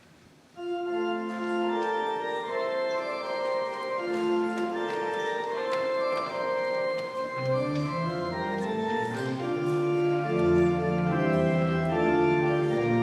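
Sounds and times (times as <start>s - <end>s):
church organ chords: 0.6s - 13.0s.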